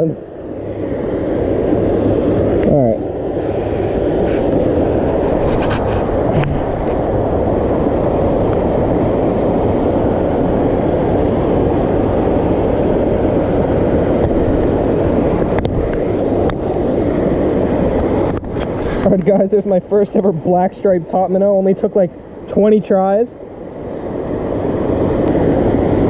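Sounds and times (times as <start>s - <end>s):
low rumbling noise: 0.0s - 26.0s.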